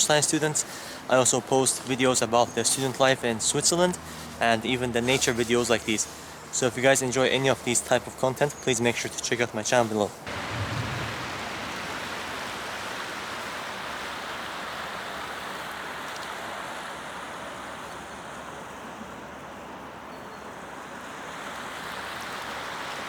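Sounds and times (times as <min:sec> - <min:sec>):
river water rushing: 0:00.0 - 0:07.7, 0:10.2 - 0:20.0, 0:20.6 - 0:23.0.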